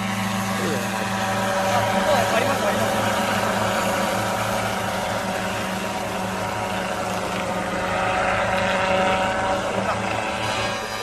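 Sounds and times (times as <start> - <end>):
model helicopter motor whining: 0.0 - 11.0.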